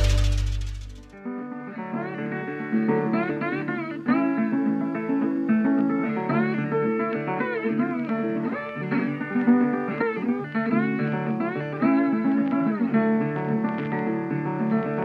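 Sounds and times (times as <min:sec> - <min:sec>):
guitar with bending notes: 0:00.0 - 0:15.0.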